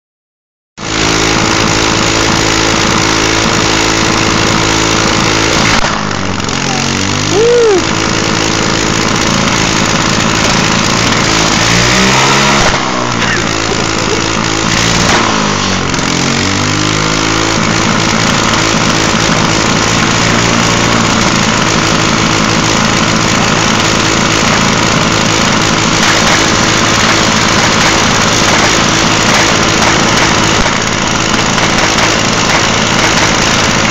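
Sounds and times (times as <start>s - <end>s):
small engine running and revving: 0.8s - 33.9s.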